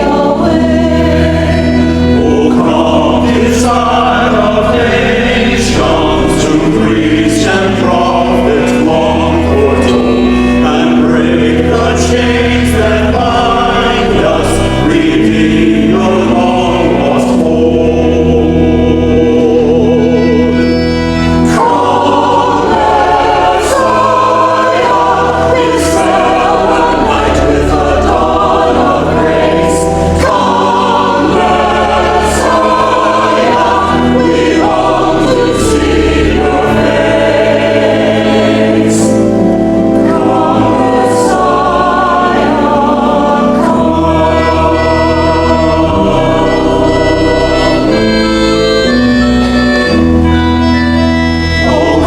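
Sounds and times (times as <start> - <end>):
church choir singing: 0.0 - 52.0.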